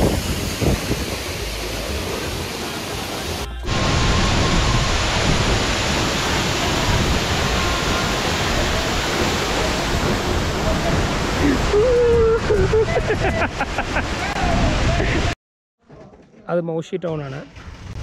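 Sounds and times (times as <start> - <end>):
waterfall roaring: 0.0 - 15.4.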